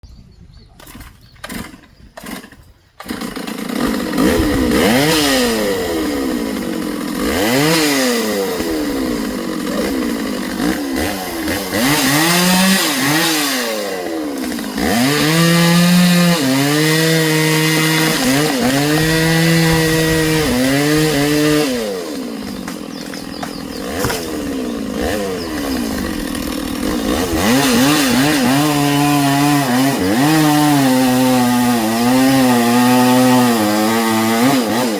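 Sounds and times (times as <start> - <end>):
chainsaw revving: 0.9 - 34.9.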